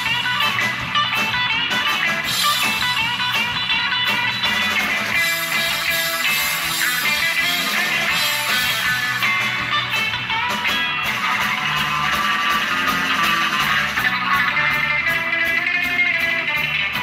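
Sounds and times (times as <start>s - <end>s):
live rock band instrumental: 0.0s - 17.0s.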